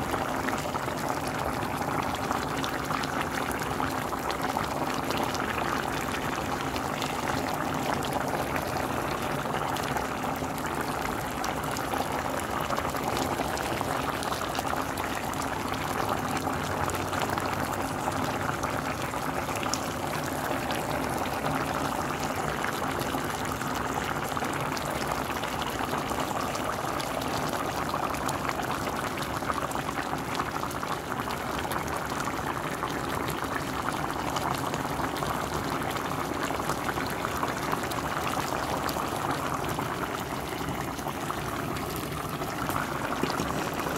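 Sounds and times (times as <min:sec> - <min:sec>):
pot of broth boiling: 0:00.0 - 0:43.9.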